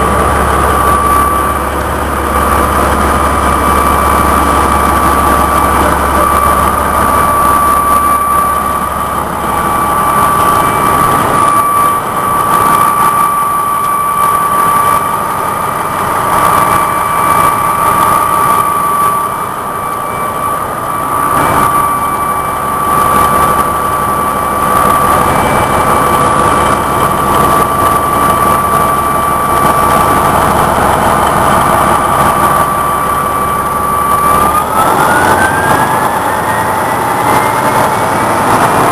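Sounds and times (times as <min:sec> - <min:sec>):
grinder machine drone: 0:00.0 - 0:38.9
high whine: 0:00.0 - 0:38.9.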